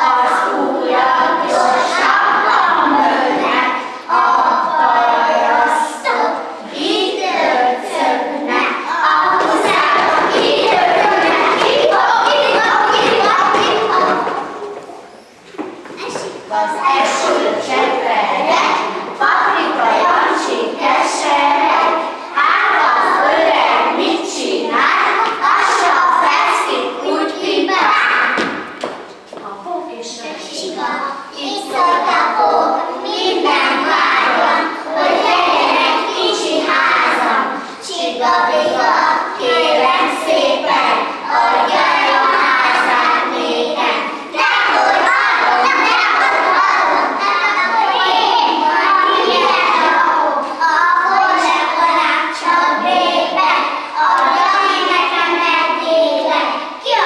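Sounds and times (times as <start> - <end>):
children's voices in chorus: 0.0 - 15.2, 16.0 - 29.0, 30.0 - 57.0.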